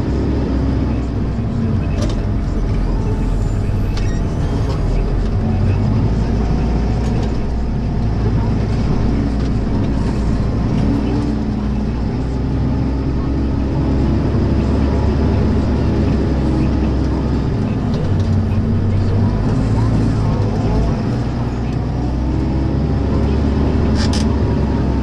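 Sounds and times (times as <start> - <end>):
tractor engine under load: 0.0 - 25.0.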